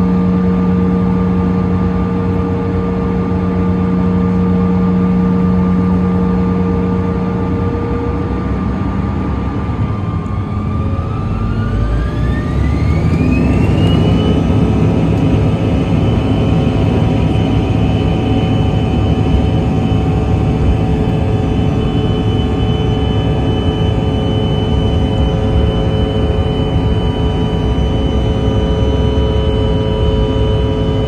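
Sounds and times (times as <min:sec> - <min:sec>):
jet engine whine rising: 0:00.0 - 0:31.0
loud engine rumble: 0:00.0 - 0:31.0.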